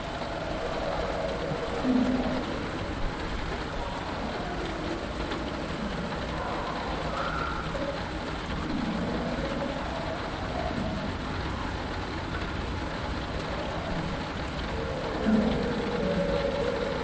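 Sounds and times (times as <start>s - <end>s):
low croaks: 0.0s - 17.0s
rain pattering on canopy: 0.0s - 17.0s.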